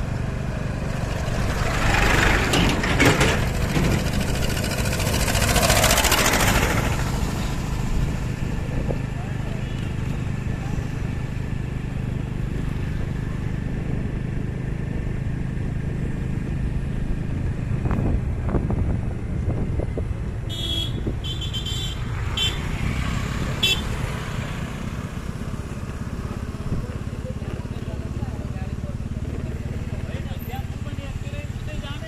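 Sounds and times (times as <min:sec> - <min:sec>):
road traffic engines: 0:00.0 - 0:32.0.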